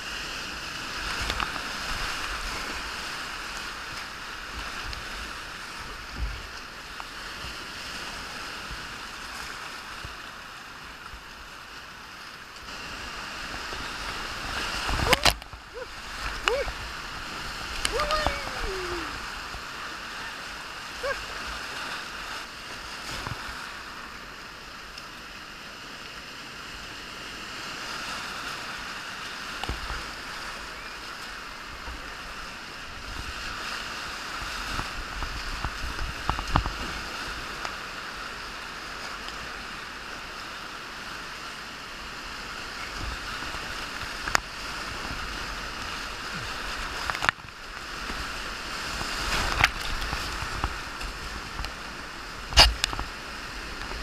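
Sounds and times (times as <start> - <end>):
waves splashing against boat: 0.0 - 54.0
whitewater rushing: 0.0 - 54.0.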